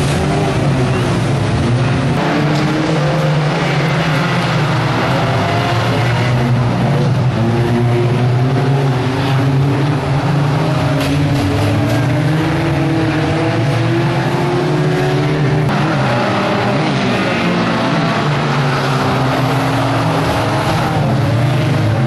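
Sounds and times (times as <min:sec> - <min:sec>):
race car engines running hard: 0:00.0 - 0:22.0.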